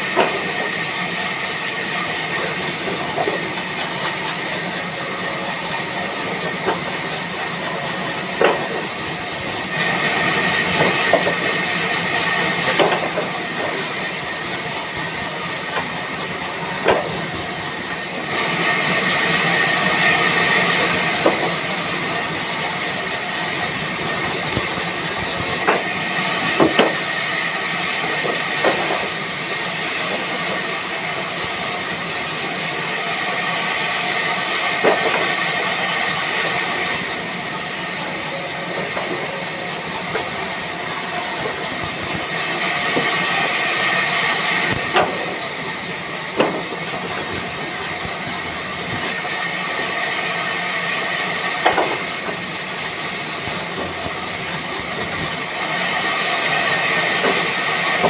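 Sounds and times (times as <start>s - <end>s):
train wheels clicking: 0.0s - 49.9s, 51.0s - 58.0s.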